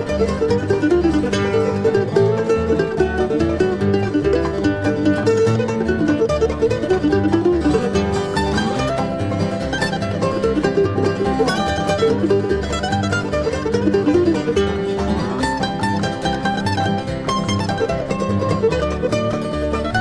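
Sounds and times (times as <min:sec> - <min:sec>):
banjo: 0:00.0 - 0:20.0
bass: 0:00.0 - 0:20.0
dobro sliding notes: 0:00.0 - 0:20.0
guitar: 0:00.0 - 0:20.0
mandolin: 0:00.0 - 0:20.0.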